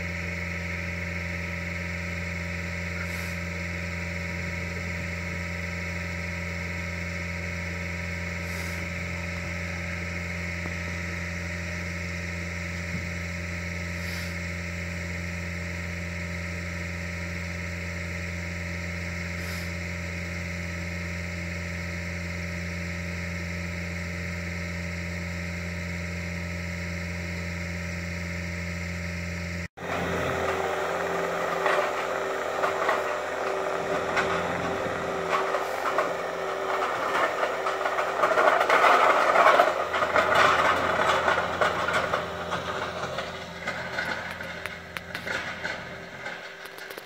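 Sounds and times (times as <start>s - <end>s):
engine idling: 0.0s - 47.0s
rough engine and machinery noise: 0.0s - 47.0s.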